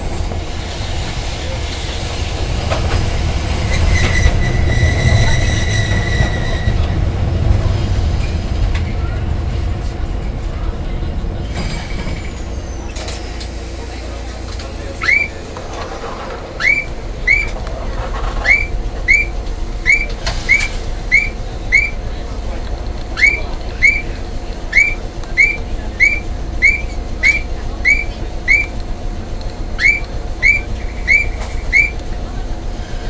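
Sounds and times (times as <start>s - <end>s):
tram humming: 0.0s - 33.0s.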